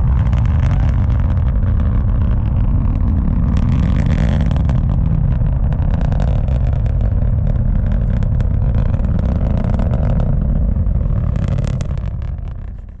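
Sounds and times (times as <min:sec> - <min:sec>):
rocket engines rumbling and crackling: 0:00.0 - 0:13.0.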